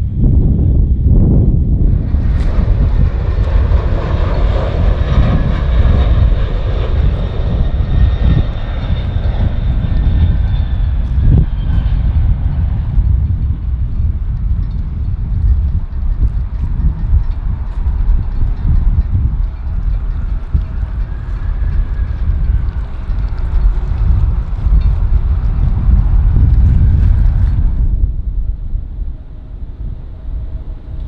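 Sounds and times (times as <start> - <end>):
high engine whine: 0.0 - 31.0
jet engines rumbling: 0.0 - 31.0.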